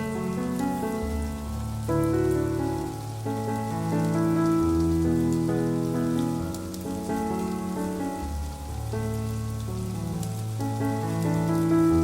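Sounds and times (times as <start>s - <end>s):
soft instrumental music: 0.0s - 12.0s
steady rain: 0.0s - 12.0s.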